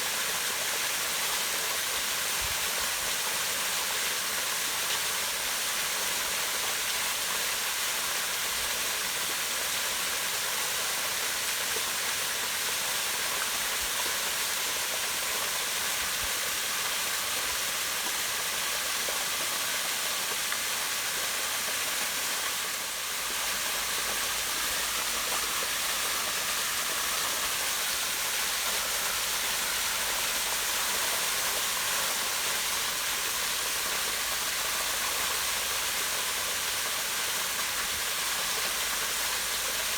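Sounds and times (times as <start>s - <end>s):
waterfall rushing into pond: 0.0s - 39.9s.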